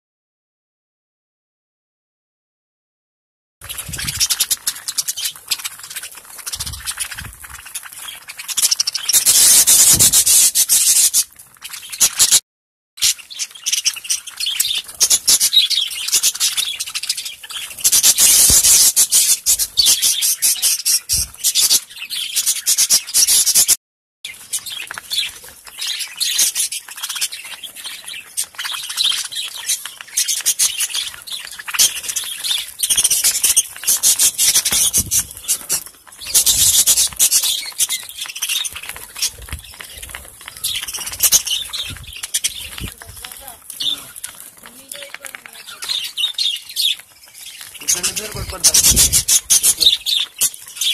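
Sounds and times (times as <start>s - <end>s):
budgerigars chirping: 3.6s - 12.4s, 13.0s - 23.7s, 24.3s - 44.2s, 44.9s - 50.9s.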